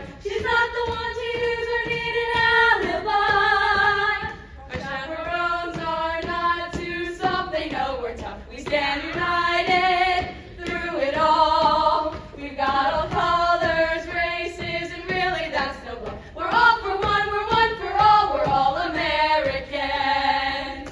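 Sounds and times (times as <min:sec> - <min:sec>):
young women singing together: 0:00.0 - 0:20.9.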